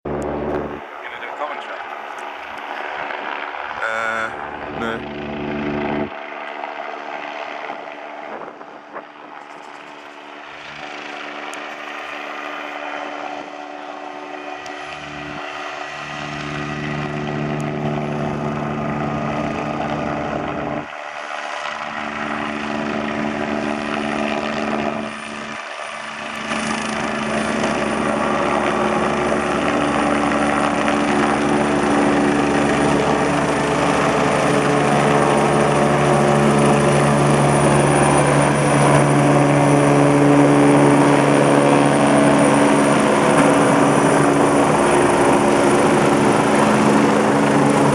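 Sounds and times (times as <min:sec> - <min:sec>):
helicopter rotors and engine: 0:00.1 - 0:47.9.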